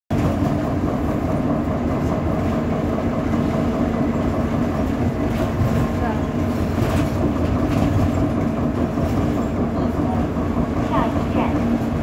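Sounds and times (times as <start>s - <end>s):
bus engine low hum: 0.1s - 12.0s
road rumble: 0.1s - 12.0s.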